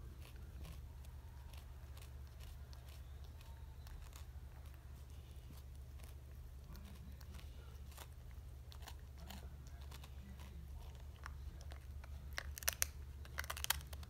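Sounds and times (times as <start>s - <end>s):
cat crunching tortilla chip: 0.0s - 14.0s
steady low hum: 0.0s - 14.0s.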